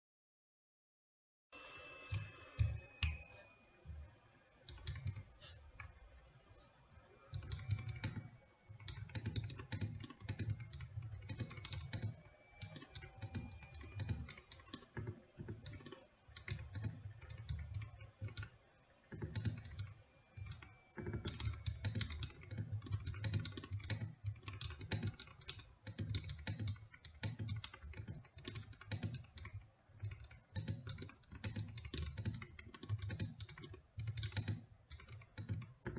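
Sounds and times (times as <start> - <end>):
mechanical keyboard typing: 4.6 - 6.0, 7.2 - 35.9.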